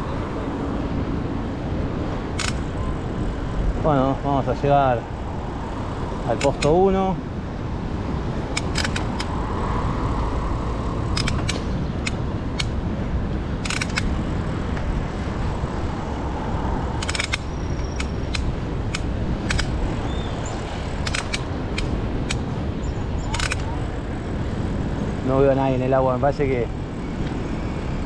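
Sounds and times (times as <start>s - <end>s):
mountain bike rumble: 0.0s - 28.0s
wind on microphone: 0.0s - 28.0s.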